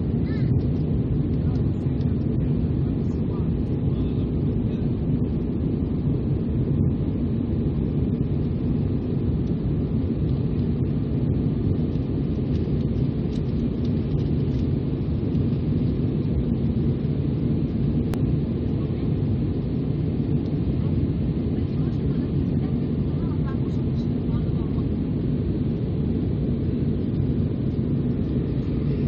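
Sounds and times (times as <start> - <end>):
jet engines roaring in cabin: 0.0 - 29.0.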